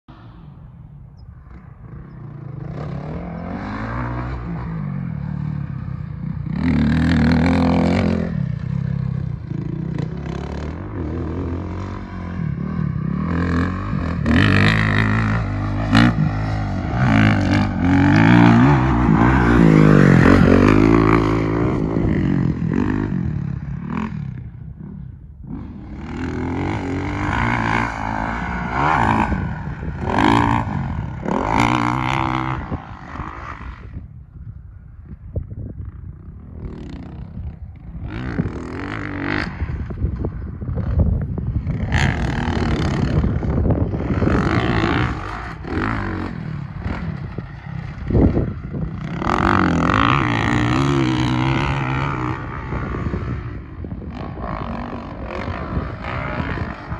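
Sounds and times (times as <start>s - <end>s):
dirt bike engine revving: 1.5s - 24.8s, 25.5s - 34.1s, 36.6s - 56.9s.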